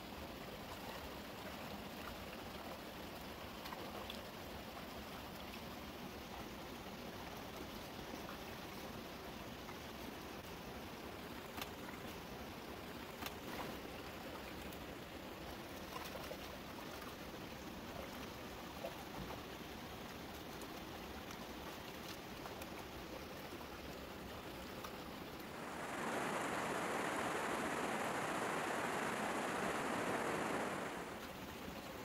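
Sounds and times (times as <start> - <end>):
stream running over stones: 0.0 - 25.9.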